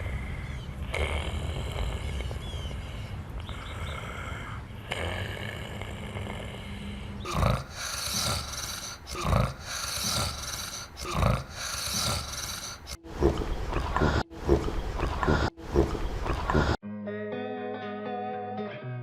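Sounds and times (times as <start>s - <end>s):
person snoring: 0.0s - 2.6s, 3.5s - 16.8s
noisy breathing: 0.0s - 16.8s.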